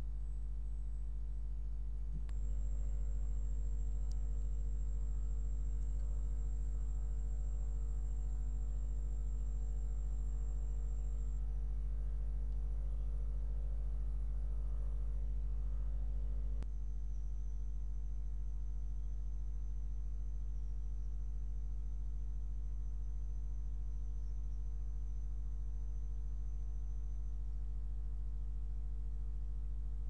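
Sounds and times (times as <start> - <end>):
electrical mains hum: 0.0 - 30.0
faint high whine: 0.0 - 30.0.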